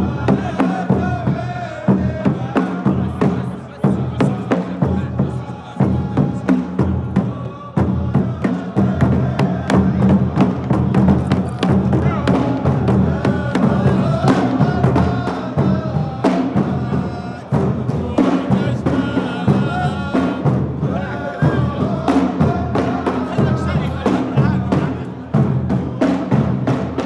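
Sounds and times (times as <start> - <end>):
frame drums beating: 0.0 - 27.0
men chanting: 0.0 - 27.0.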